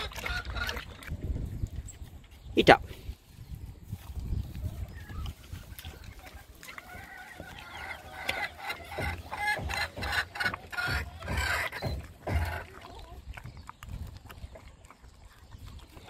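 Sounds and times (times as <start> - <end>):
chickens clucking: 0.0 - 1.5, 3.9 - 16.0
dog chewing and gulping meat: 0.0 - 2.4, 3.8 - 16.0.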